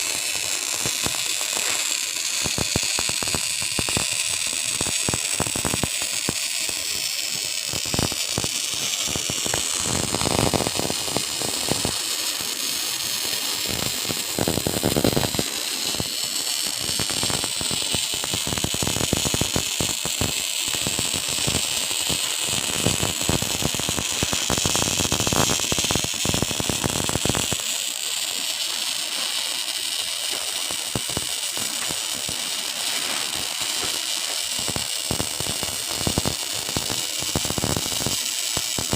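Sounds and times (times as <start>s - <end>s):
steady high hiss: 0.0s - 38.9s
welding arc crackling and popping: 0.0s - 38.9s.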